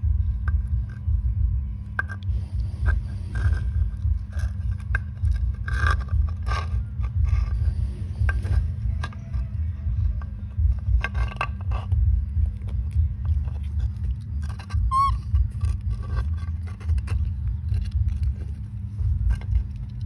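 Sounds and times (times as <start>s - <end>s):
monkeys gnawing plastic toy: 0.0s - 20.0s
squeaky rubbing: 0.0s - 20.0s
steady low hum: 0.0s - 20.0s.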